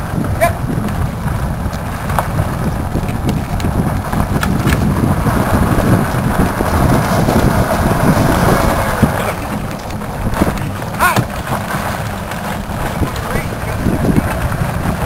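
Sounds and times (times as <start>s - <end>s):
cart wheels rolling on pavement: 0.0s - 15.0s
wind buffeting microphone: 0.0s - 15.0s.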